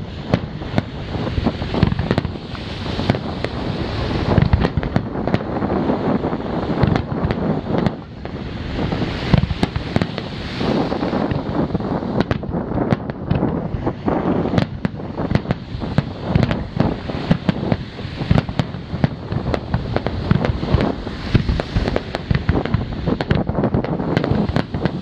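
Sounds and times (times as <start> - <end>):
fireworks booming and cracking: 0.0 - 25.0.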